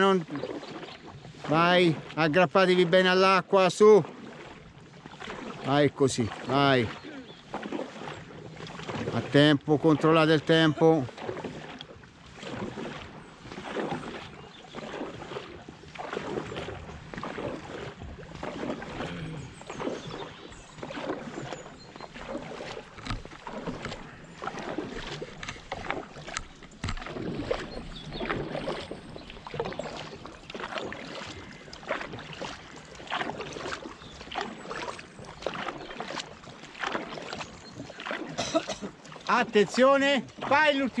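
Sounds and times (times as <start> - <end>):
paddles splashing in water: 0.0 - 41.0
water rushing along hull: 0.0 - 41.0.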